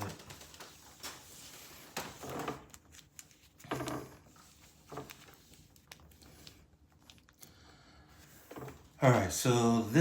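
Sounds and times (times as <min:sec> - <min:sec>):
paper and plastic rustling: 0:00.0 - 0:09.4.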